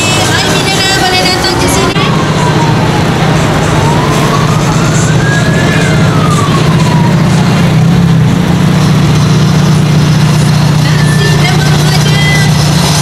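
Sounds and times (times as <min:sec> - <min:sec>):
siren wailing: 0:00.0 - 0:13.0
steady low drone: 0:00.0 - 0:13.0.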